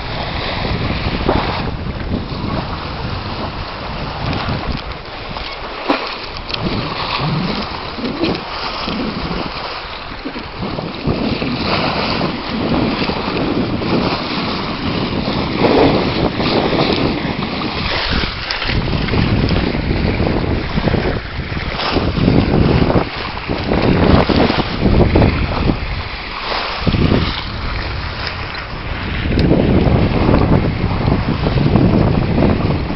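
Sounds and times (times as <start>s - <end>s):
water rushing along boat hull: 0.0s - 32.9s
wind buffeting microphone: 0.0s - 32.9s.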